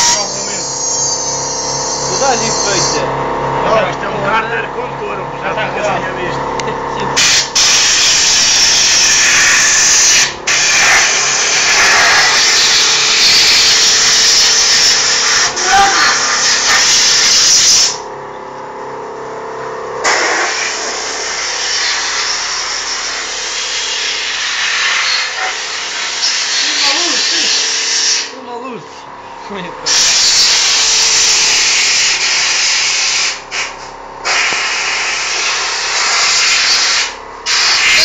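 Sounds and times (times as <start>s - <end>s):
motorcycle engine at high revs: 0.0s - 18.1s, 19.0s - 28.5s, 29.8s - 38.0s.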